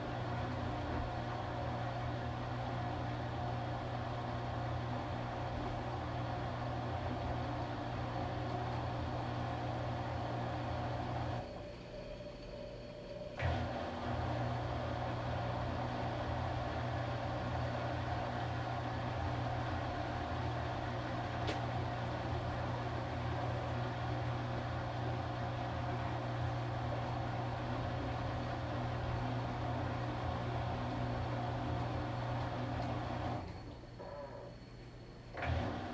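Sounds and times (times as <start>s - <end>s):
washing machine running: 0.0s - 34.6s, 35.2s - 35.9s.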